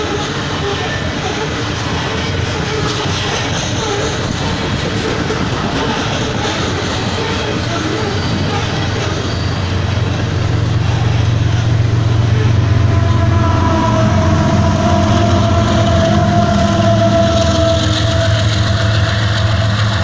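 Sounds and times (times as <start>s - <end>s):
diesel locomotive drone: 0.0s - 20.0s
train wheels rumbling on rails: 0.0s - 20.0s.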